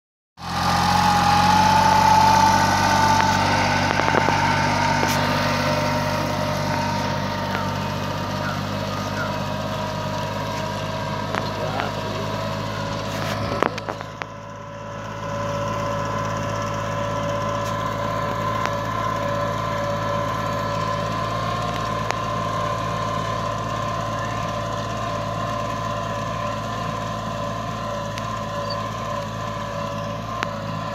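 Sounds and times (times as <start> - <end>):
tractor engine running under load: 0.4 - 30.9.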